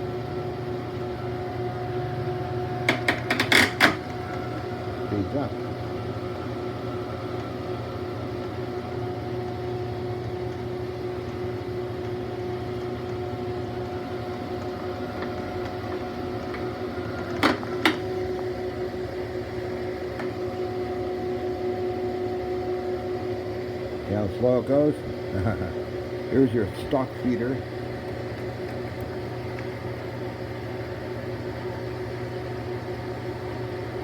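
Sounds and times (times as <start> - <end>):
lathe mechanical hum: 0.0 - 34.0.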